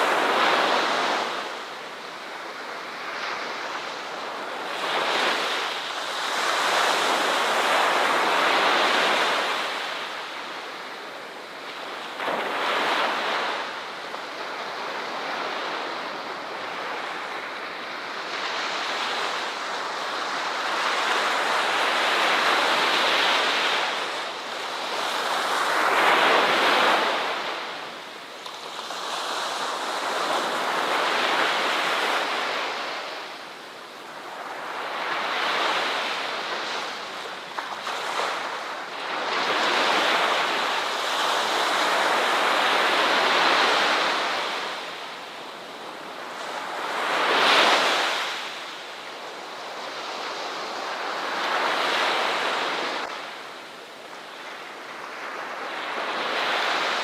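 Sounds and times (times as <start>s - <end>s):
waves breaking on the shore: 0.0s - 57.0s.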